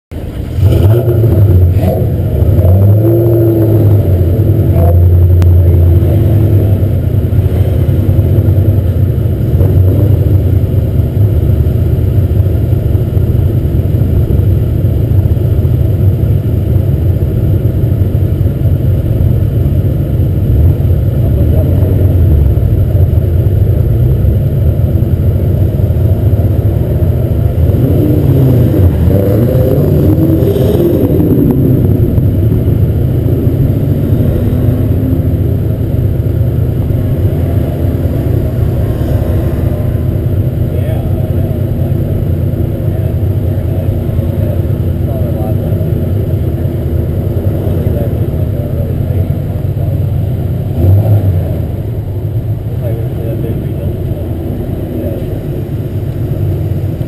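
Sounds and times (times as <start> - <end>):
car engine idling: 0.1 - 57.0.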